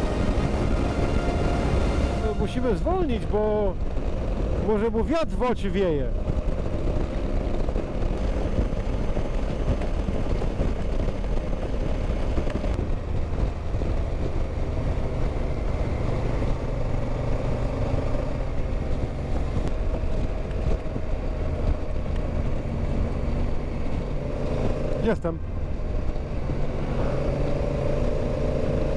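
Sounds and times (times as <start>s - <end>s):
motorcycle engine humming: 0.0s - 28.9s
wind noise on microphone: 0.0s - 28.9s.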